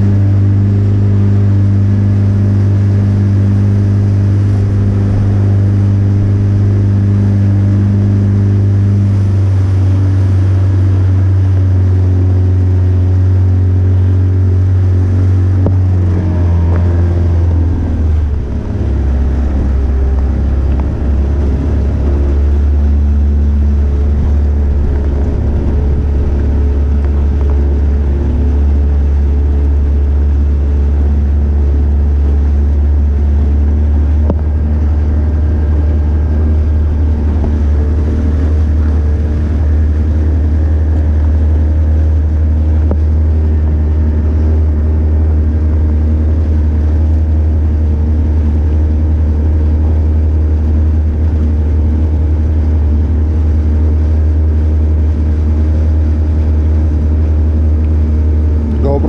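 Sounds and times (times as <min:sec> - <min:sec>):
motorboat engine droning: 0:00.0 - 0:59.0.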